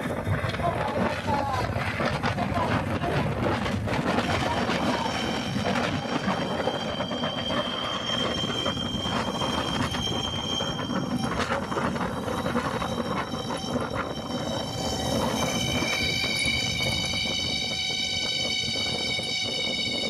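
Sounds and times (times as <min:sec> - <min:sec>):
high-pitched squeal: 0:03.4 - 0:20.0.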